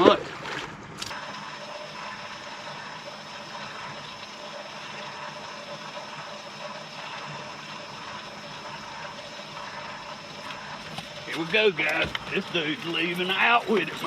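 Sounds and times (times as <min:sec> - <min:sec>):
water rushing around boat: 0:00.0 - 0:14.0.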